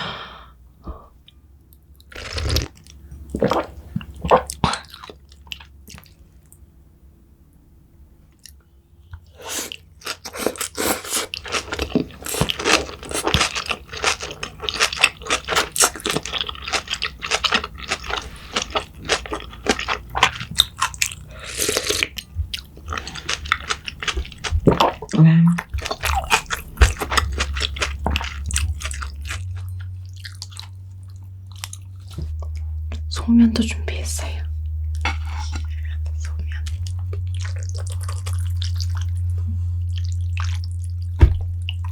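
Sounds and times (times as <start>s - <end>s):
crunching and chewing crisp food: 2.0s - 6.6s, 8.3s - 33.2s, 33.9s - 41.9s.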